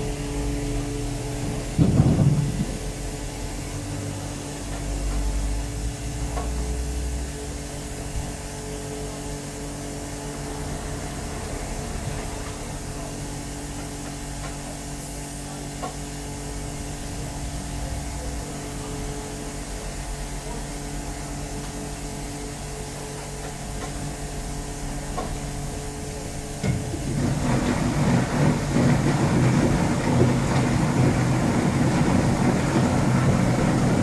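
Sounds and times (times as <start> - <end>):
electric motors humming: 0.0 - 14.8, 15.6 - 34.0.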